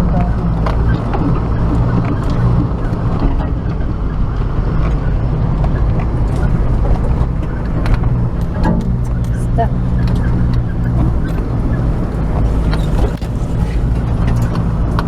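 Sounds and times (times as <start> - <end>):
low engine drone: 0.0 - 15.0
sharp knocks and rattles: 0.0 - 15.0.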